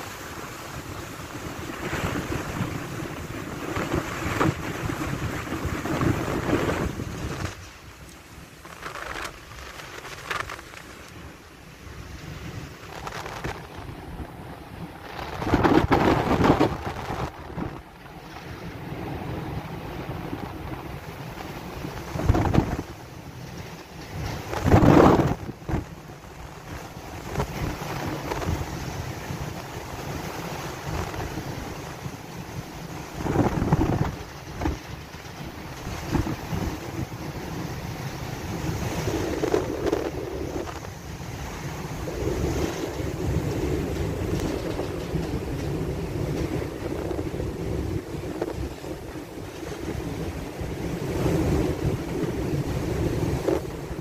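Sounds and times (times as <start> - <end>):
rough sea rushing: 0.0 - 54.0
waves breaking along ship hull: 0.0 - 54.0
wind buffeting microphone: 0.0 - 54.0.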